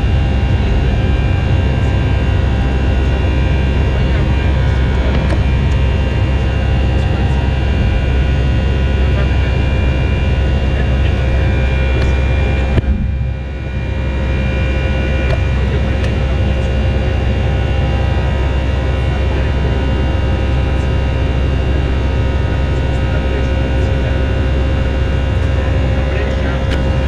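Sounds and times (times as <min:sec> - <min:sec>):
airplane cabin engine noise: 0:00.0 - 0:27.0.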